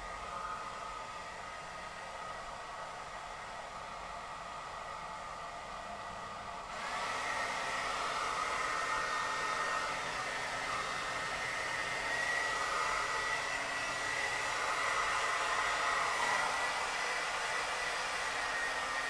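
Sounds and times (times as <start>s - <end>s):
hair dryer blowing: 0.0s - 19.0s.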